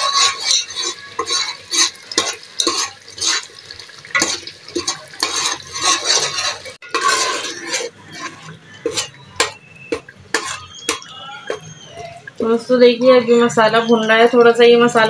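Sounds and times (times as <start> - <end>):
metal ladle scraping pot: 0.0 - 15.0
spices frying in oil: 0.0 - 15.0.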